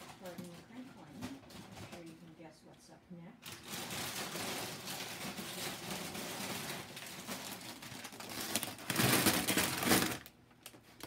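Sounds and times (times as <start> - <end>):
chip bags crinkling: 0.0 - 2.3, 3.4 - 11.0.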